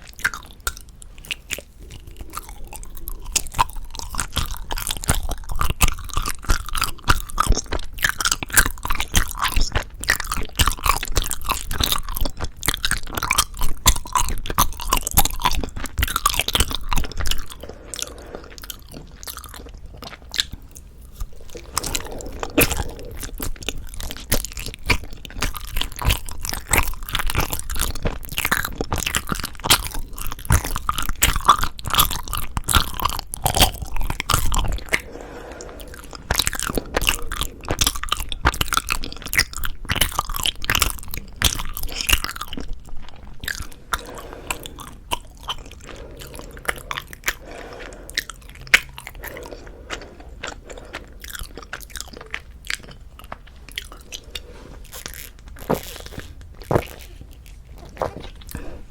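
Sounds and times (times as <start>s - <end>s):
wet chewing mouth sounds: 0.0s - 58.9s.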